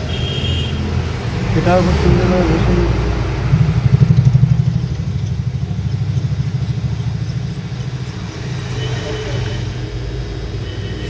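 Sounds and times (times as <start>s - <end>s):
engine low pulsing: 0.0s - 11.0s.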